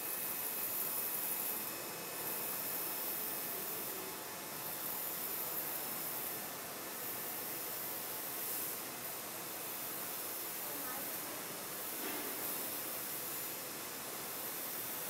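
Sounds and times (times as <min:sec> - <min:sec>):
steady hissing room noise: 0:00.0 - 0:15.0.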